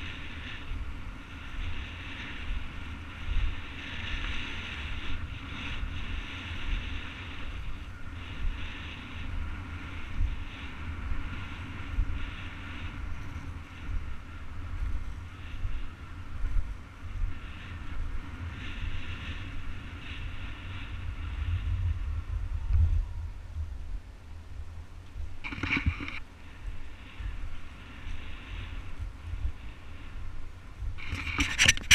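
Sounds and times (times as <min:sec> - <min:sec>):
skate wheels rolling on asphalt: 0:00.0 - 0:31.9
wind buffeting microphone: 0:00.0 - 0:31.9.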